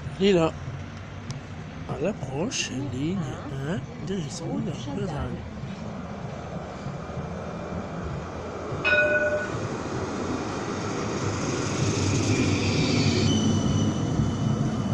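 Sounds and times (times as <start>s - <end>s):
tram wheels rumbling on rails: 0.0s - 14.9s
high whine of tram: 1.0s - 14.9s.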